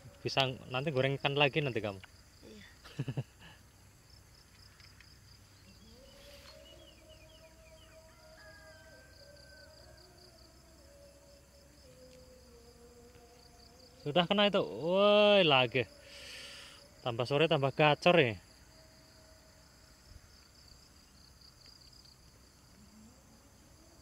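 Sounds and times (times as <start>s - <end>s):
crickets and insects chirping: 0.0s - 24.0s
faint steady hum: 0.0s - 24.0s.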